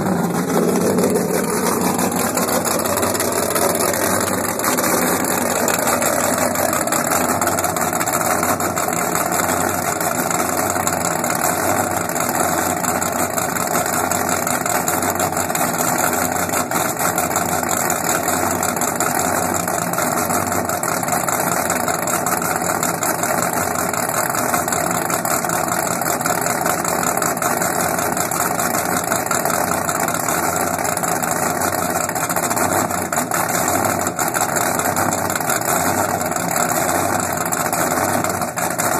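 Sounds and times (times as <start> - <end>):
boat engines idling: 0.0 - 38.9.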